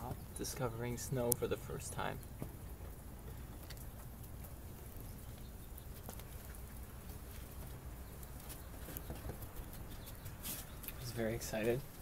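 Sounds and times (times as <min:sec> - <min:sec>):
soft ticks and pats: 0:00.5 - 0:12.0.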